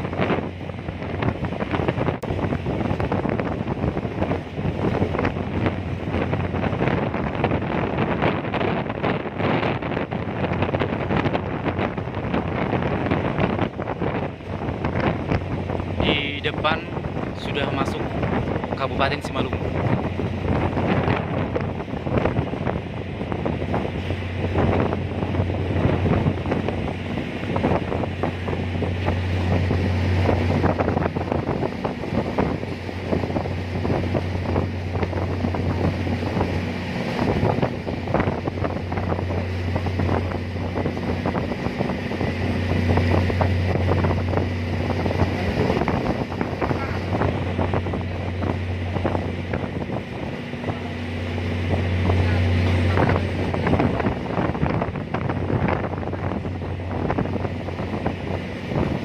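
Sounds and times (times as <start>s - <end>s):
ferry engine droning: 0.0s - 59.0s
wind buffeting microphone: 0.0s - 59.0s.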